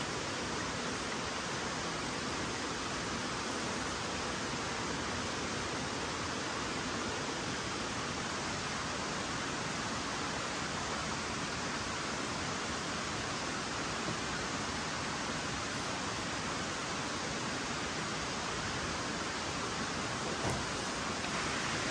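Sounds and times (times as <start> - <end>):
river water flowing: 0.0 - 21.9.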